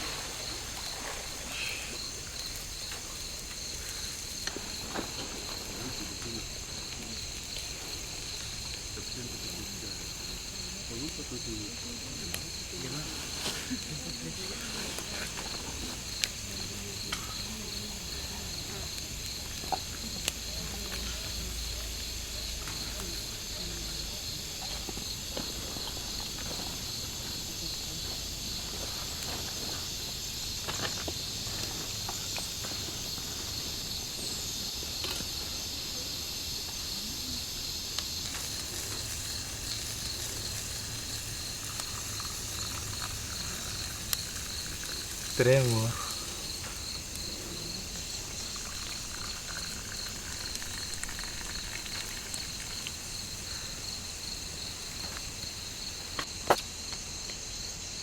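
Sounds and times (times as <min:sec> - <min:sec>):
forest insects droning: 0:00.0 - 0:58.0.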